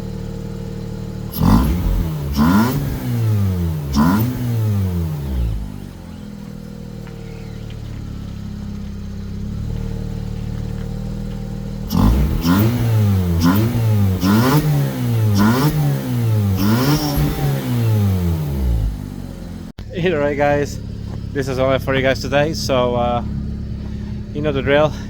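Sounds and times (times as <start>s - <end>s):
rotary engine idling and revving: 0.0s - 25.0s.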